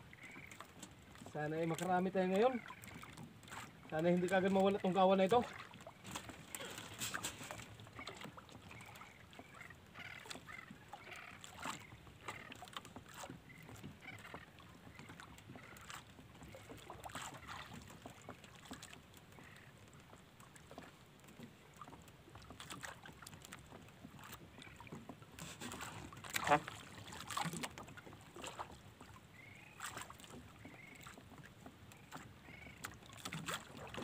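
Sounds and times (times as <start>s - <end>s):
water lapping against boat hull: 0.0s - 34.0s.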